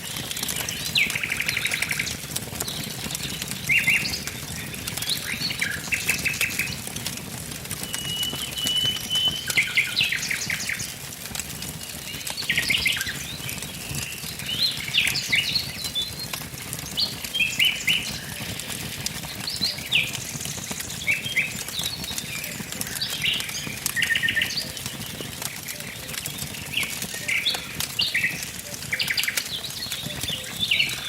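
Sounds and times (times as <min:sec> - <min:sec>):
songbirds singing: 0:00.0 - 0:07.0, 0:07.7 - 0:31.0
wood fire crackling: 0:00.0 - 0:31.0.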